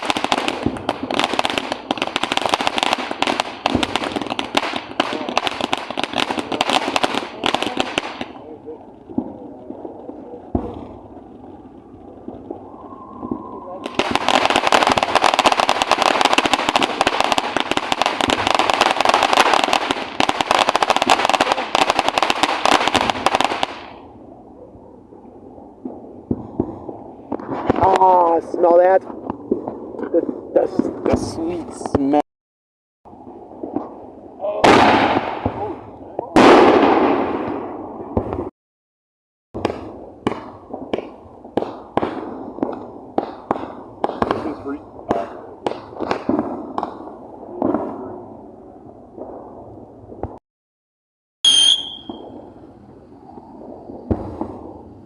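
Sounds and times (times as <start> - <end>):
firecrackers popping: 0.0 - 24.1, 25.8 - 32.2, 34.6 - 38.5, 39.6 - 48.2, 51.4 - 52.6, 53.3 - 55.0.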